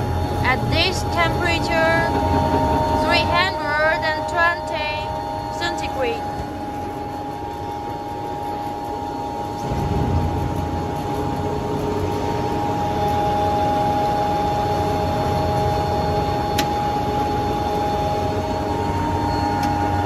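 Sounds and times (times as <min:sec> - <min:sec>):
electric motor hum with whine: 0:00.0 - 0:20.0
heavy low rumble of machine: 0:00.0 - 0:20.0.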